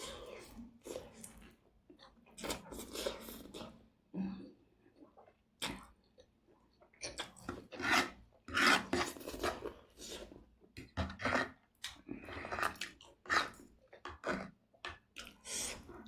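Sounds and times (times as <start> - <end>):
noodles being slurped and chewed: 0.0 - 4.1, 4.9 - 16.0.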